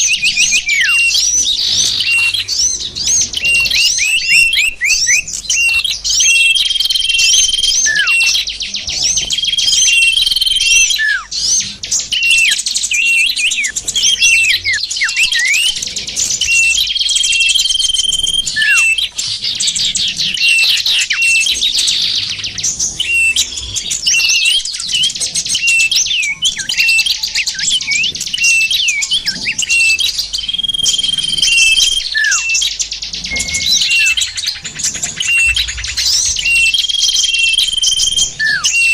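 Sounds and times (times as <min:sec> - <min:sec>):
falling bird whistles: 0:00.0 - 0:15.8, 0:16.4 - 0:19.2, 0:23.0 - 0:38.9
bird trill: 0:00.0 - 0:38.9
songbirds chirping: 0:00.0 - 0:38.9.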